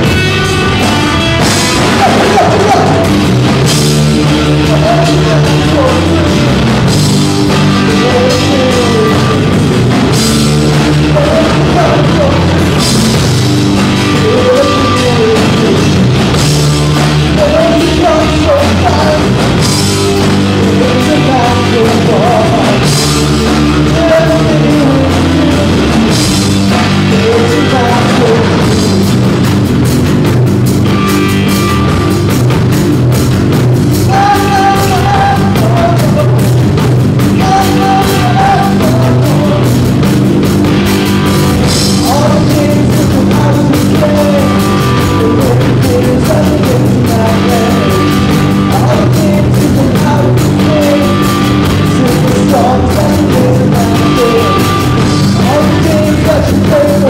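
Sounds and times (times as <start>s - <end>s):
singer's voice: 0.0s - 30.2s, 30.9s - 57.0s
distorted electric guitars: 0.0s - 57.0s
drum kit: 0.0s - 57.0s.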